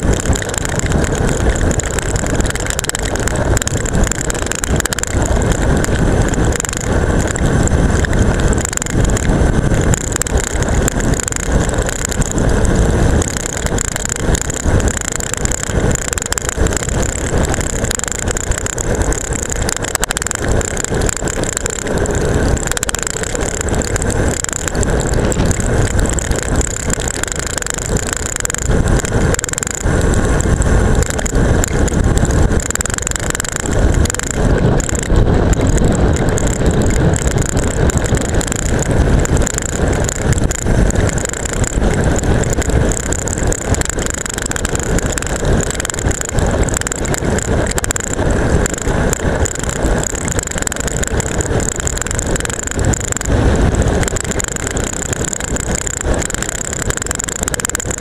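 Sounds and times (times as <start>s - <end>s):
bike tyre noise on asphalt: 0.0s - 58.0s
camera rattling on strap: 0.0s - 58.0s
wind rush: 0.0s - 58.0s.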